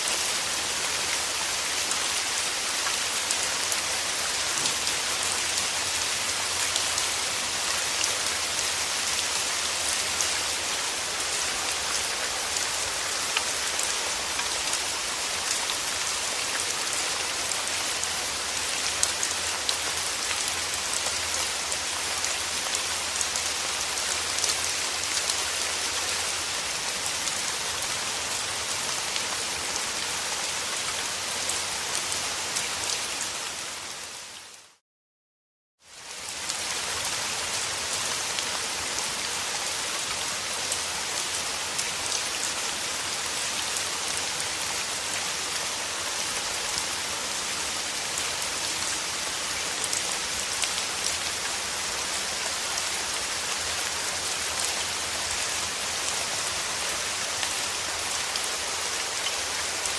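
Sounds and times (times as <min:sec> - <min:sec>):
steady rain falling: 0:00.0 - 0:34.8, 0:35.8 - 0:59.9.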